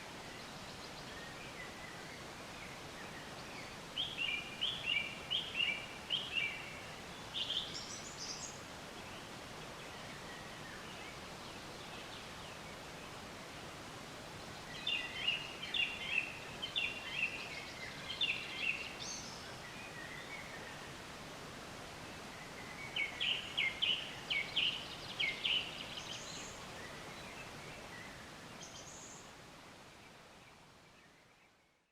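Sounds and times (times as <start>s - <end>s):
forest ambience hiss: 0.0s - 31.9s
songbird chirping: 0.0s - 31.9s.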